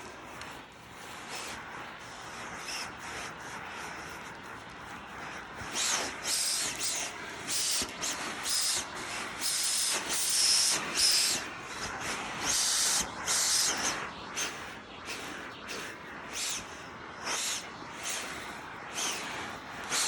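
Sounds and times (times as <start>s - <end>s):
vacuum cleaner suction hissing: 0.0s - 20.0s
vacuum motor high whine: 0.0s - 20.0s.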